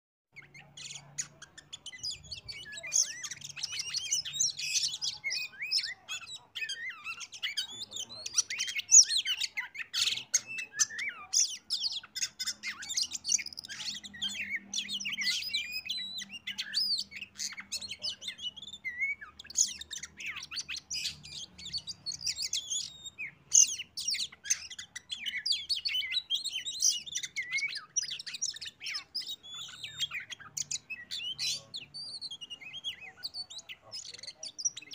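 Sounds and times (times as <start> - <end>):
songbird singing rapid chirps: 0.3 - 34.9.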